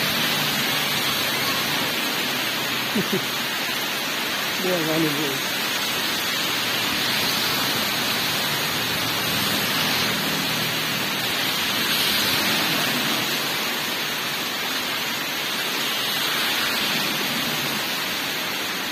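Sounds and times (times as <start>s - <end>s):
car tyres spraying water: 0.0s - 18.9s
heavy rain on road and roofs: 0.0s - 18.9s.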